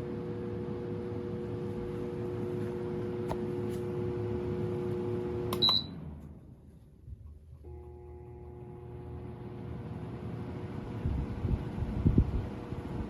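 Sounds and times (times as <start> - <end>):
fan airflow noise: 0.0 - 7.7, 8.4 - 13.0
fan motor hum: 0.0 - 13.0.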